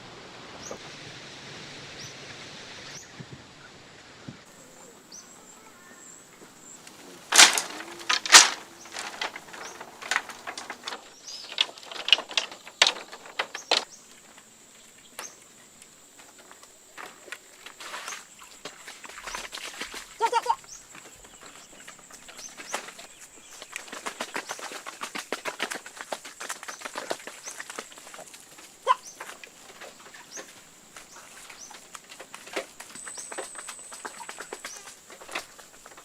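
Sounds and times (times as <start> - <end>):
soft steady hiss: 0.0 - 36.0.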